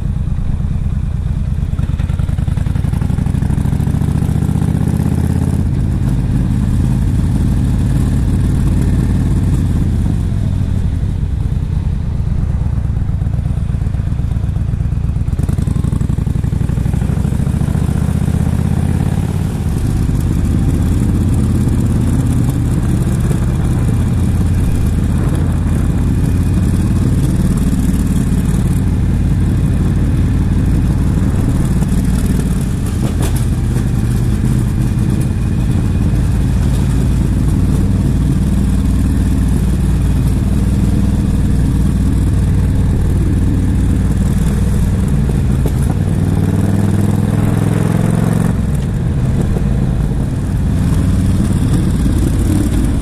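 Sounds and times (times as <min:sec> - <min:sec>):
motorcycle engine running: 0:00.0 - 0:53.0
wind rushing over microphone: 0:00.0 - 0:53.0.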